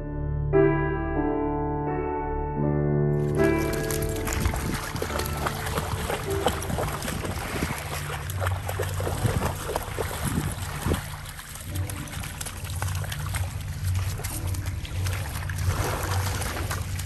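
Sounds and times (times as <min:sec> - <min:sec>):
steady low rumble: 0:03.1 - 0:17.0
dog paws splashing in water: 0:03.2 - 0:17.0.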